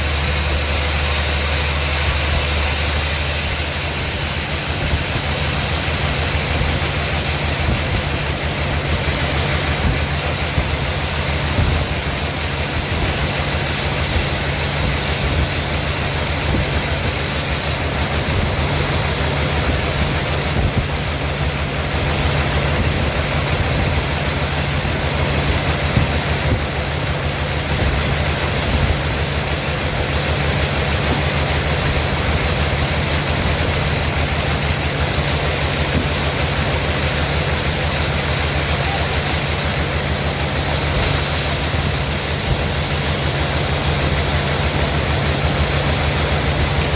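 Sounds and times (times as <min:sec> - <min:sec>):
sawmill machinery humming and hissing: 0:00.0 - 0:46.9.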